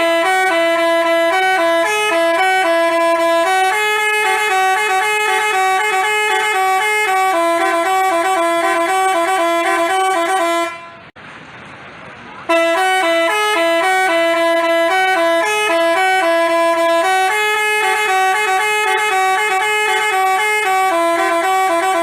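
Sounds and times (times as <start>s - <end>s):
bus horn playing a tune: 0.0s - 11.2s, 12.5s - 22.0s.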